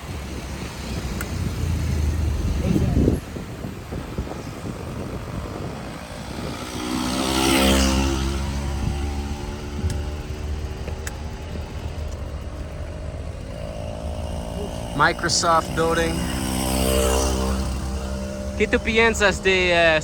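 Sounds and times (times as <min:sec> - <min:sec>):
motor vehicle engine passing: 0:00.0 - 0:20.0.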